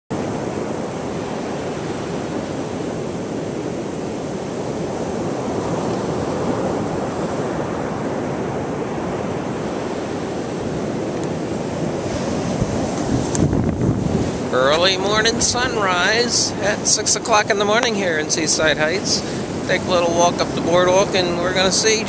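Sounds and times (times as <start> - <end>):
ocean surf breaking: 0.1 - 22.0.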